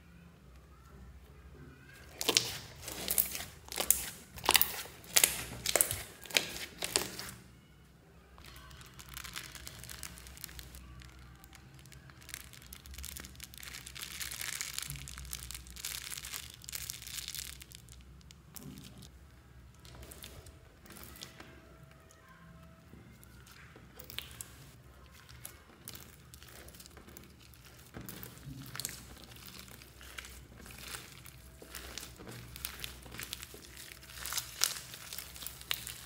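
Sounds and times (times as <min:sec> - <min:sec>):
slime popping and crackling: 0:02.0 - 0:07.4, 0:08.4 - 0:22.4, 0:23.1 - 0:36.0.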